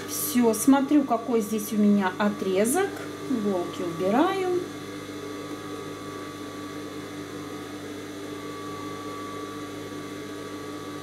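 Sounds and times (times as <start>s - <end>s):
sewing machine motor hum: 0.0s - 11.0s.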